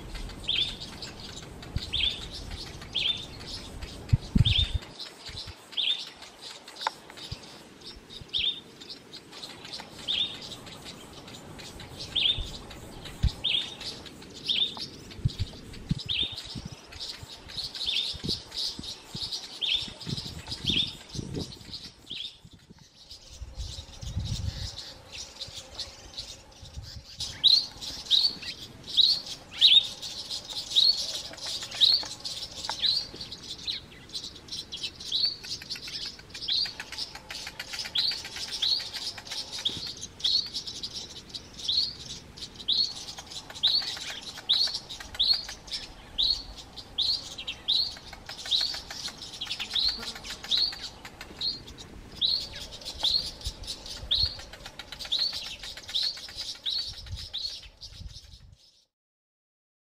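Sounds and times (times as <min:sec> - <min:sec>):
birds alarm calls: 0:00.0 - 0:58.1.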